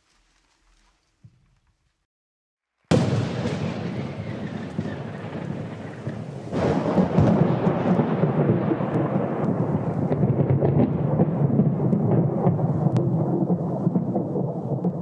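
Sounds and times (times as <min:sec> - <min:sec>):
thunder crackles: 0:02.9 - 0:15.0
thunder rumbling: 0:02.9 - 0:15.0.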